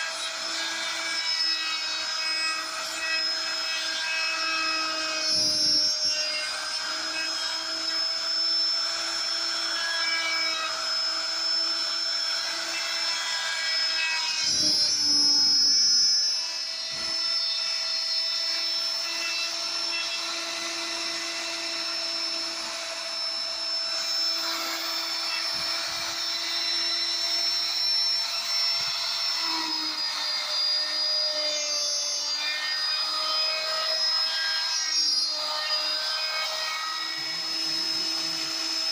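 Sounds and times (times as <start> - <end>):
power tool motor whining: 0.0 - 38.9.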